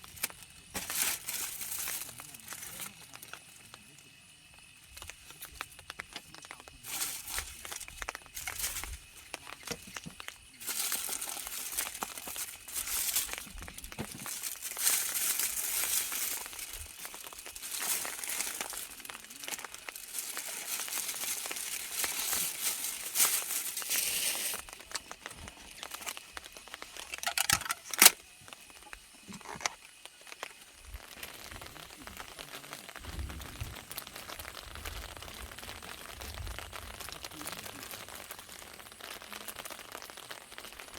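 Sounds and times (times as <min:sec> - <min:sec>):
crinkling and rustling: 0:00.0 - 0:04.0, 0:04.6 - 0:40.2.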